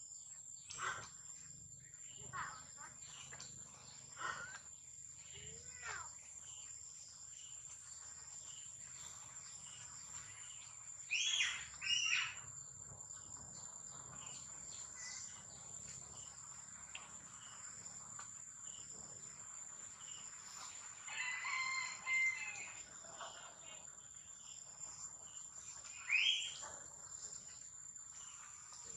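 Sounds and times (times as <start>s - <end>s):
insects droning: 0.0s - 28.9s.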